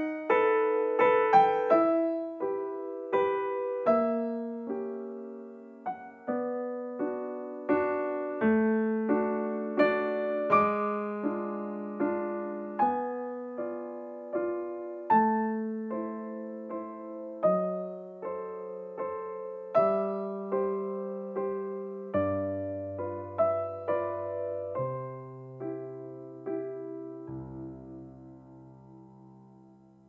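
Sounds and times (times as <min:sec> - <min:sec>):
slow gentle piano tune: 0:00.0 - 0:30.0.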